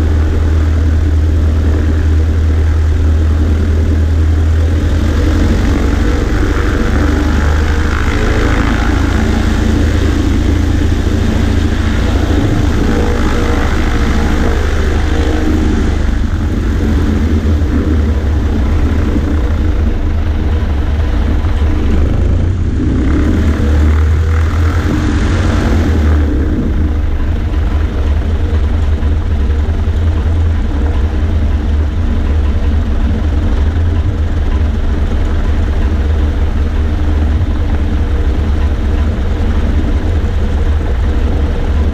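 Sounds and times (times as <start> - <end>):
propeller plane engine droning: 0.0 - 41.9.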